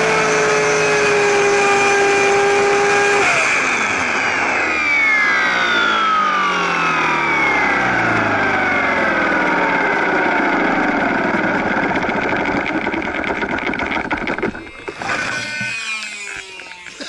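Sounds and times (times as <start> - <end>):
helicopter rotor spinning down: 0.0 - 17.0.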